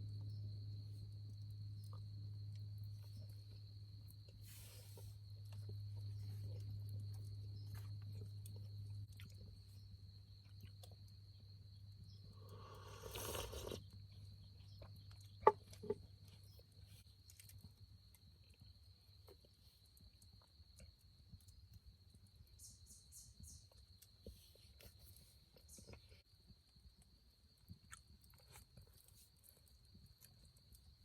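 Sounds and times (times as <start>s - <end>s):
cricket trilling: 0.0s - 31.0s
faint low hum: 0.0s - 31.0s.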